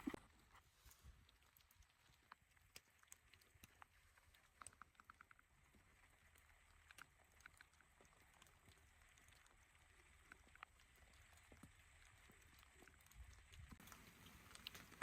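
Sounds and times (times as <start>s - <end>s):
faint ticks and clicks: 0.0s - 15.0s.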